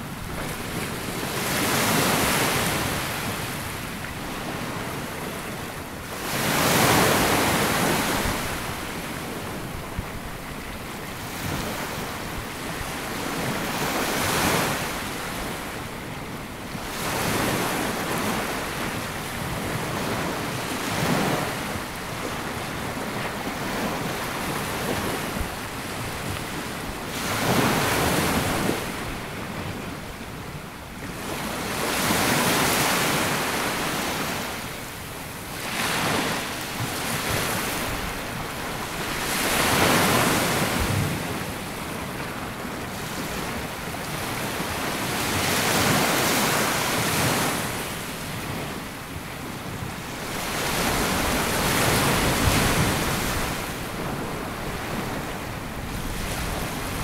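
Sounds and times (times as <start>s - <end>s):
waves breaking on sandy beach: 0.0s - 57.0s.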